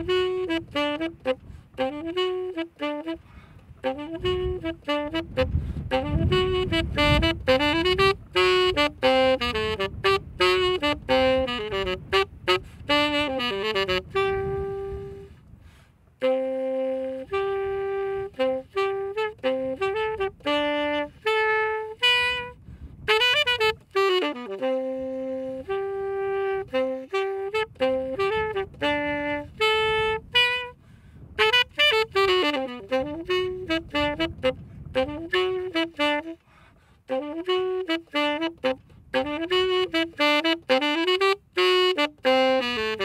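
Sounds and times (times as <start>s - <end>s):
solo saxophone melody: 0.0s - 43.0s.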